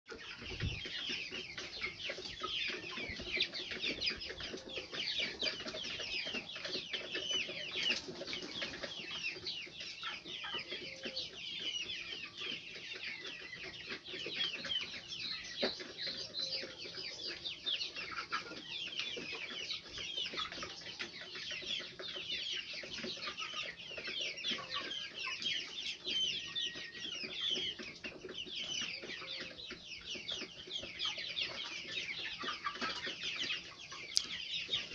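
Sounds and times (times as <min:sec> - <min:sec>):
chicks cheeping: 0:00.1 - 0:34.9.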